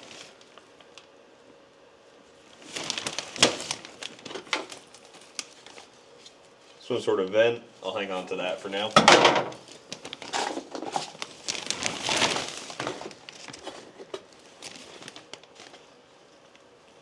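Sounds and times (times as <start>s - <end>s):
trash crinkling and rustling: 0.0s - 1.1s, 2.4s - 16.0s.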